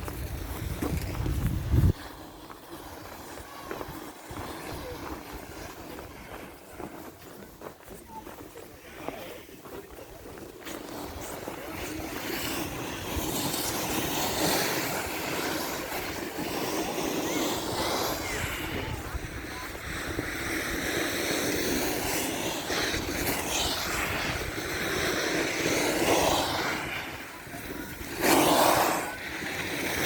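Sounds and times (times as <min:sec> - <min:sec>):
rushing wind: 0:00.0 - 0:09.0, 0:10.6 - 0:30.0.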